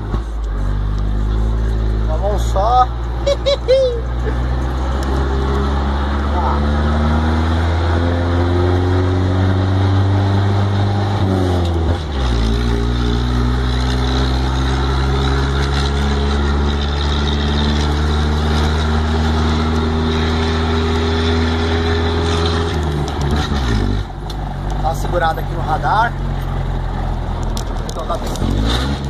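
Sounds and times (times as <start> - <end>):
diesel engine from inside truck cab: 0.0 - 29.0.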